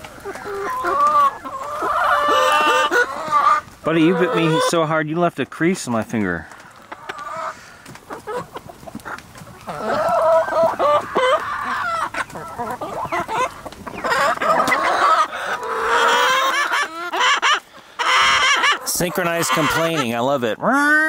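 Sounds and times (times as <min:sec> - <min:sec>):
chickens clucking and squawking: 0:00.0 - 0:21.0.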